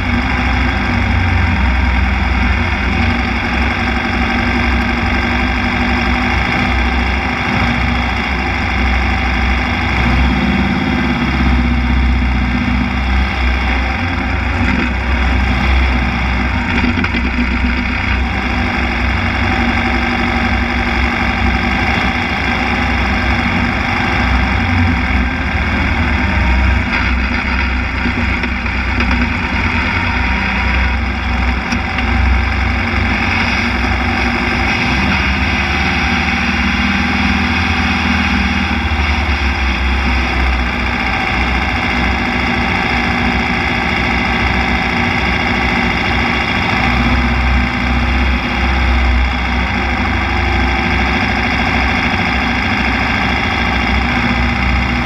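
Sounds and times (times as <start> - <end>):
car engine running at low revs: 0.0 - 55.0.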